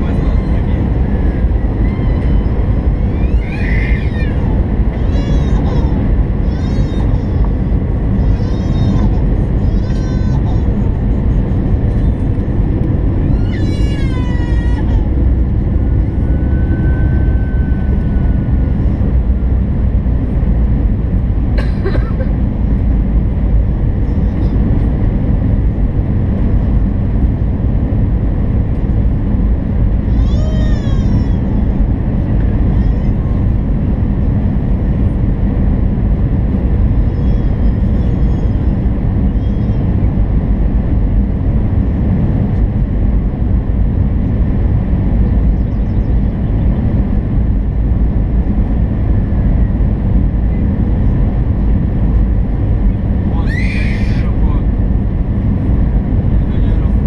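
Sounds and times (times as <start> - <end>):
airliner engine roar in cabin: 0.0 - 57.0.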